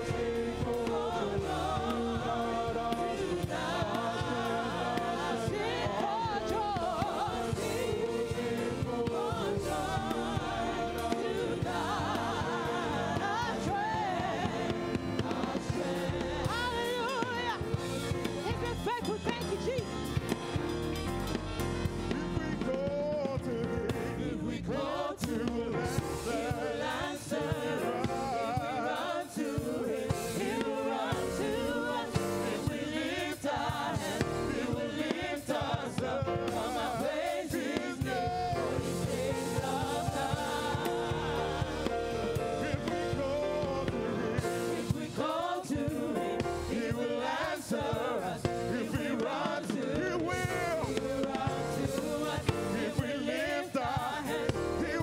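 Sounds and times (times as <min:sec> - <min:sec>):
lead singers on microphones: 0:00.0 - 0:20.7, 0:21.6 - 0:55.0
gospel choir singing: 0:00.0 - 0:55.0
live band accompaniment: 0:00.0 - 0:55.0.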